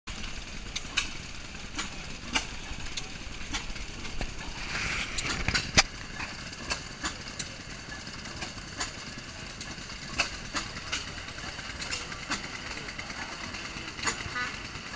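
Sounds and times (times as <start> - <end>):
engine knocks: 0.1 - 14.9
stationary engine running slowly: 0.1 - 14.9.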